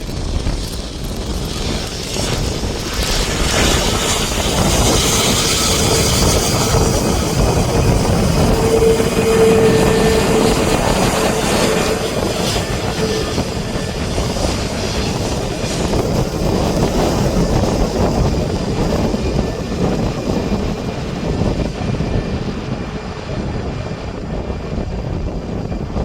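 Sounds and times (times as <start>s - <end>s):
airliner engines running: 0.0s - 26.0s
jet engine whine: 0.0s - 26.0s.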